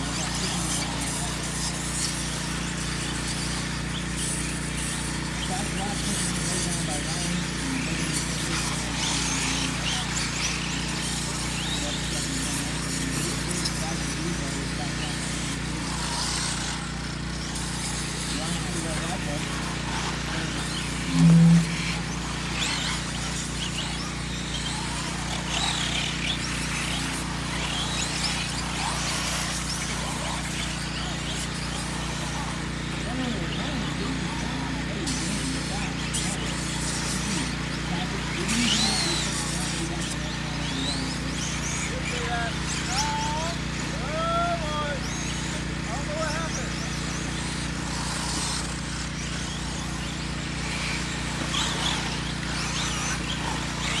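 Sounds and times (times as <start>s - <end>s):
steady low hum: 0.0s - 44.0s
rc truck motors whining: 0.0s - 54.0s.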